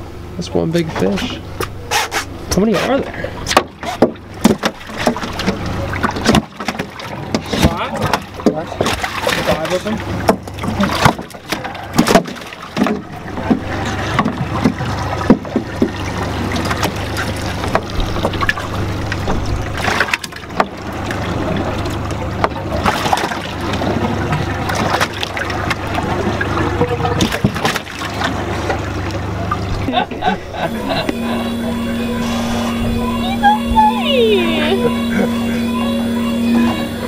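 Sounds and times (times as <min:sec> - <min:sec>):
boat engine humming: 0:00.0 - 0:37.0.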